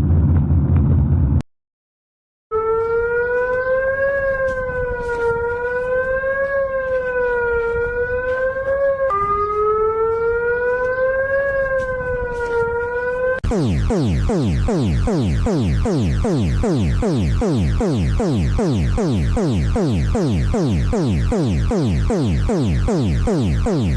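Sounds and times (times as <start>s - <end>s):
siren wailing: 2.5s - 23.9s.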